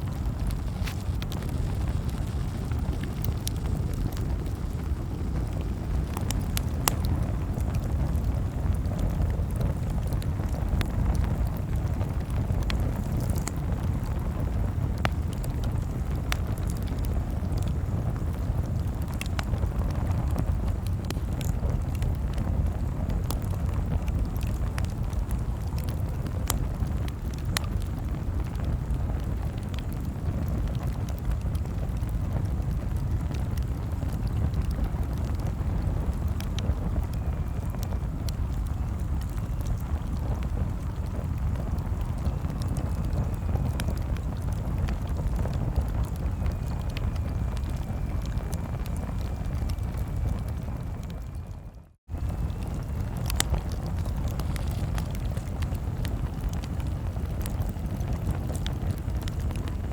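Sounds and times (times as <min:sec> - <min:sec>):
campfire crackling and popping: 0:00.0 - 0:59.9
fire low rumble: 0:00.0 - 0:59.9.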